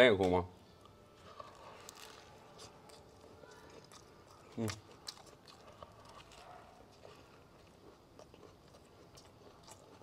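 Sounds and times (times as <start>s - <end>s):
person chewing: 0.8s - 10.0s.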